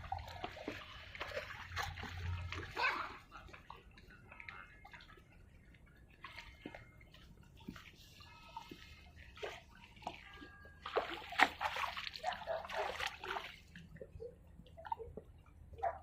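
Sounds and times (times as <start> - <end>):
small splashes and gurgles: 0.0 - 4.0, 6.1 - 16.0
sea water trickling and dripping: 0.0 - 16.0.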